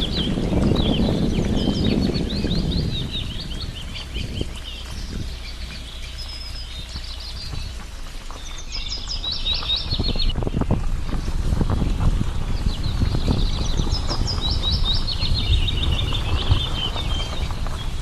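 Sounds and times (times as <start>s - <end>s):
low outdoor rumble: 0.0s - 18.0s
songbirds chirping and twittering: 0.0s - 18.0s.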